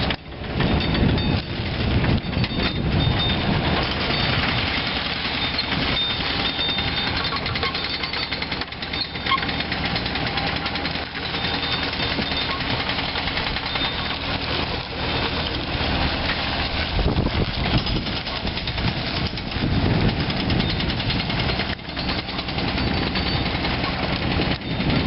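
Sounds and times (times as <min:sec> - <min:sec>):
diesel excavator engine running: 0:00.0 - 0:25.0.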